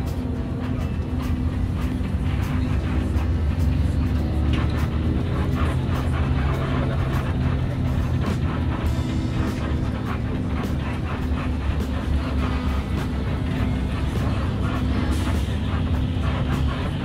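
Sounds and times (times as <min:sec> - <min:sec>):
bus engine and road rumble: 0:00.0 - 0:17.0
music playing: 0:00.0 - 0:17.0
rattles: 0:00.0 - 0:17.0.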